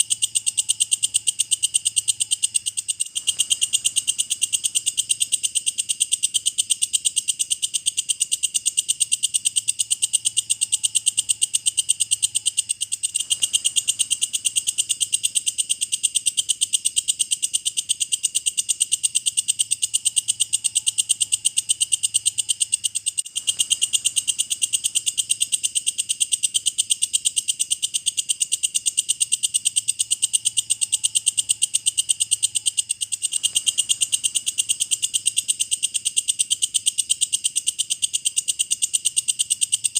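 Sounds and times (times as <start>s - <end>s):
bush cricket trilling: 0.0s - 39.9s.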